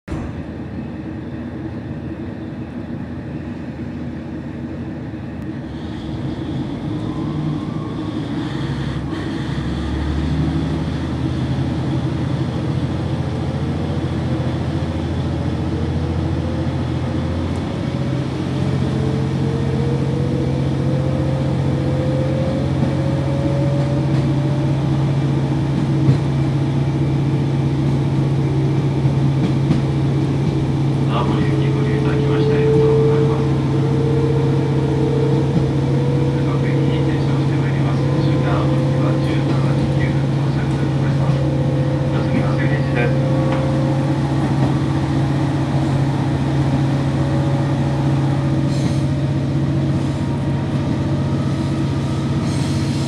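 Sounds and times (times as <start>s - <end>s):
diesel engine working: 0.1s - 53.0s.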